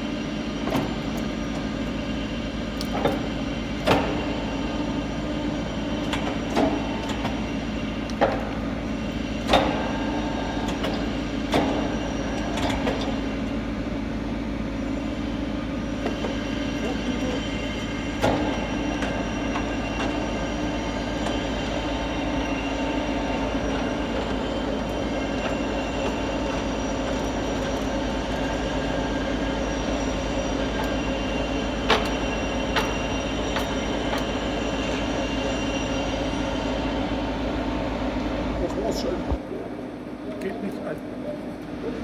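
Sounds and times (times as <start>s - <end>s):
lathe gearing whine: 0.0s - 42.0s.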